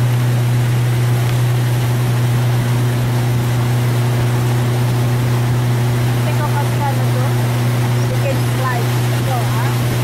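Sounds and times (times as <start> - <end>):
outboard motor humming: 0.0 - 10.0.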